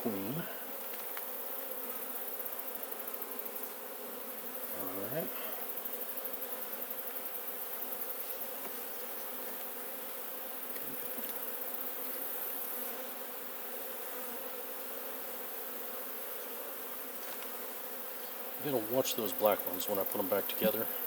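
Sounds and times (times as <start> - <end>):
bees humming: 0.0 - 21.0.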